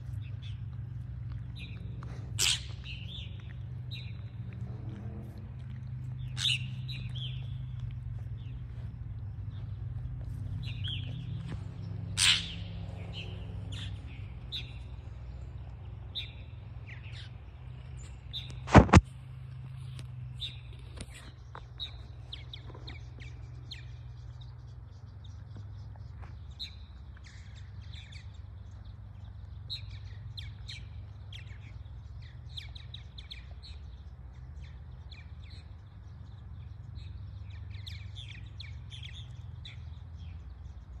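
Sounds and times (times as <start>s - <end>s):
birds chirping: 0.0s - 41.0s
steady low rumble: 0.0s - 41.0s.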